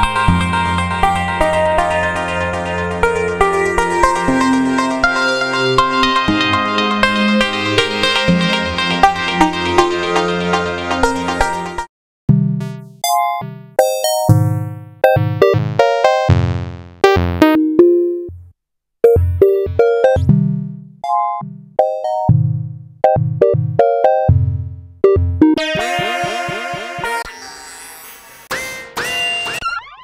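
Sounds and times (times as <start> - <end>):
synthesizer sequenced pattern: 0.0 - 11.9, 12.6 - 27.4.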